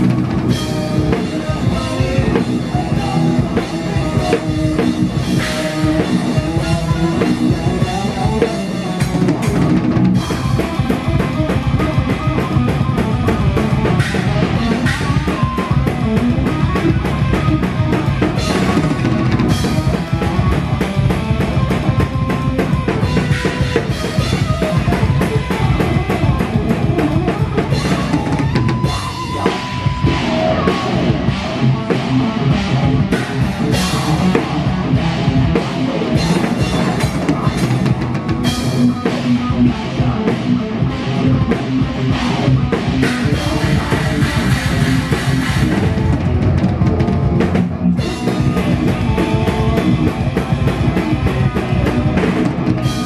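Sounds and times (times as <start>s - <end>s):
band playing: 0.0s - 53.0s.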